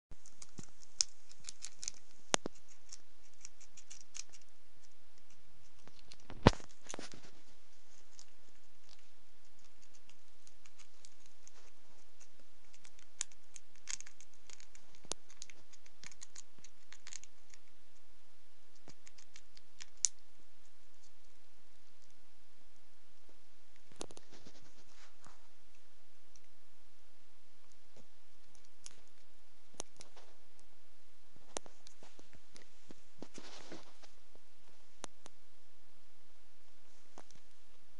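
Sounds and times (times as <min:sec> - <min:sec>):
squirrel gnawing a nut shell: 0:00.1 - 0:22.2, 0:23.6 - 0:26.6, 0:27.6 - 0:30.7, 0:31.4 - 0:34.2.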